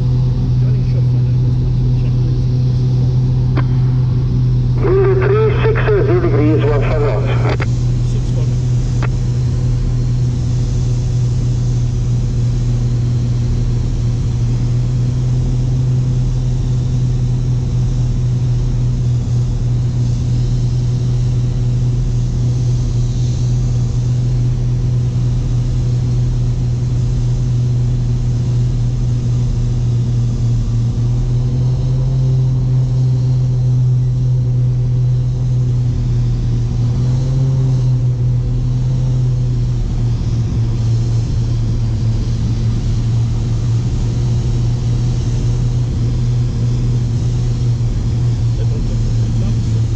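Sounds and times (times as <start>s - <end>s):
aircraft engines droning in cockpit: 0.0s - 49.9s.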